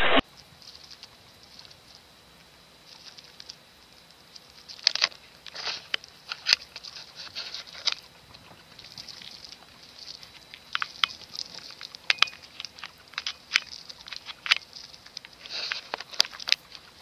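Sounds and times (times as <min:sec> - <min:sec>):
hamster gnawing corn cob: 0:00.2 - 0:17.0.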